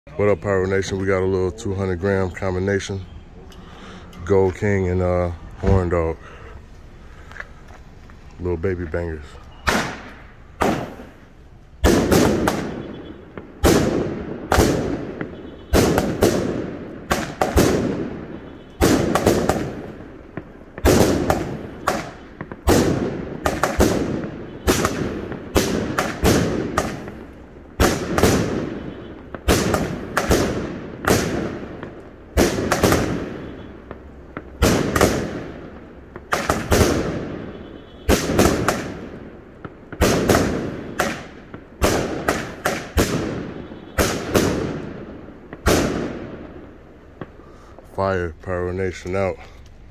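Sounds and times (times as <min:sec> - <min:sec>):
sharp firework reports with echo: 0:00.1 - 0:49.9.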